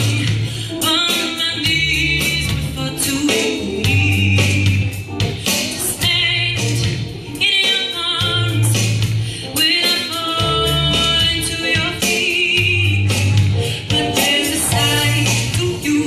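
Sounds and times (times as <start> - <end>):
bass and drums accompaniment: 0.0 - 16.0
woman singing pop ballad: 0.0 - 16.0.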